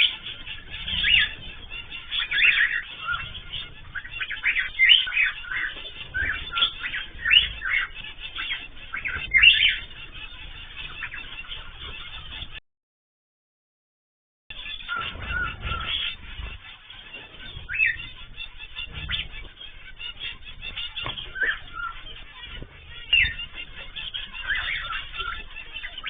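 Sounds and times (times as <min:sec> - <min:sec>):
caged birds chirping and squawking: 0:00.0 - 0:12.6, 0:14.5 - 0:26.0.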